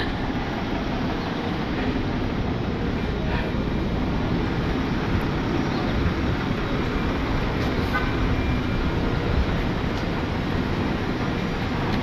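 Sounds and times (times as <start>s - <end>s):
tow truck engine running: 0.0s - 12.0s.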